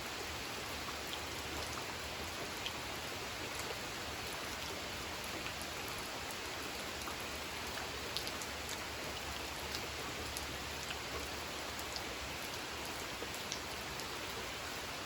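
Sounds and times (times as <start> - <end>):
rain falling on pond: 0.0 - 15.0.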